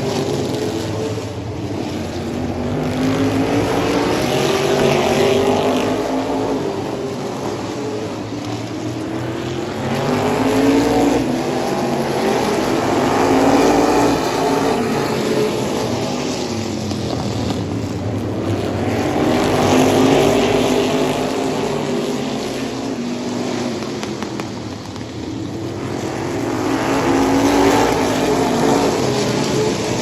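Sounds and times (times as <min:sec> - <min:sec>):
race car engines: 0:00.0 - 0:30.0.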